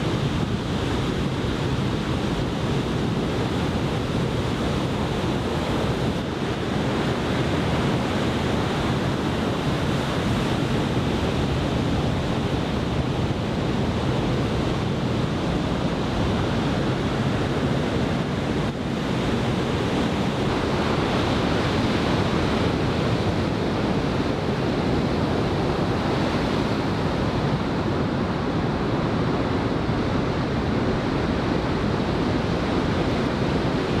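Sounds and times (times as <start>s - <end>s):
heavy ocean surf: 0.0s - 34.0s
wind buffeting microphone: 0.0s - 34.0s.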